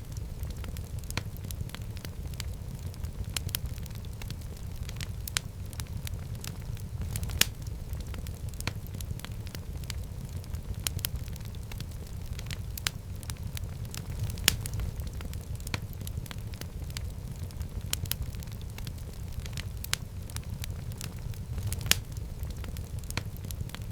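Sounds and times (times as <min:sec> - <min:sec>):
fire crackling and popping: 0:00.0 - 0:23.9
fire rumbling: 0:00.0 - 0:23.9.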